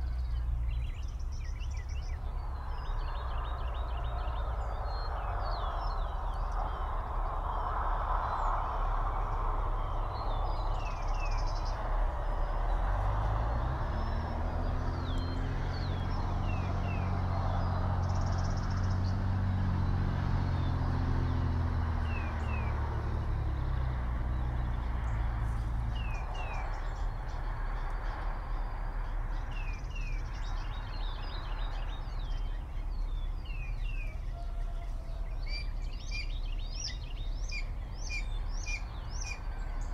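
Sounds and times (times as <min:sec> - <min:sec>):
low distant engine drone: 0:00.0 - 0:39.9
songbirds chirping: 0:00.0 - 0:39.9.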